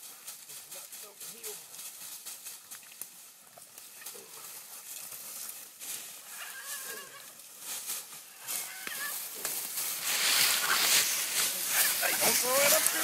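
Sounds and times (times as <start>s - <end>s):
animals scuffling in dry leaves: 0.0s - 13.0s.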